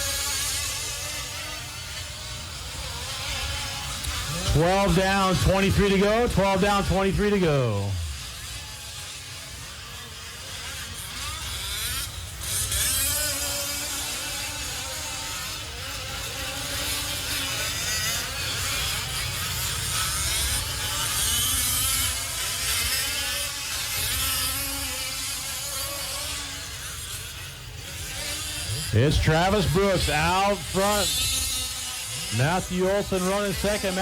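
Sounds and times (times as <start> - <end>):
small two-stroke engines buzzing: 0.0 - 34.0.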